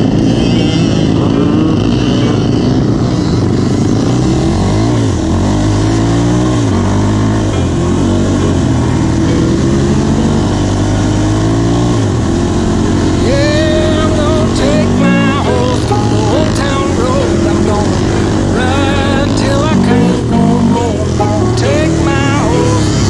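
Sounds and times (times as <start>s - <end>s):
quad engine revving: 0.0s - 23.0s.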